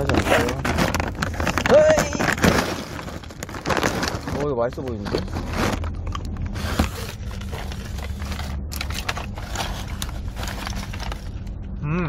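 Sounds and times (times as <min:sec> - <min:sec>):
crackly handling rustles: 0:00.0 - 0:11.5.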